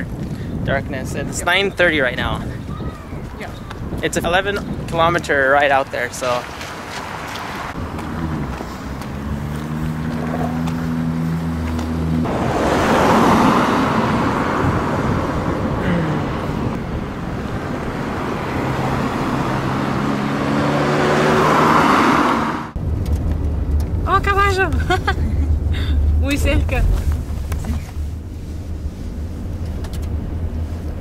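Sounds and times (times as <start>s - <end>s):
car engine and tyre noise: 0.0s - 31.0s.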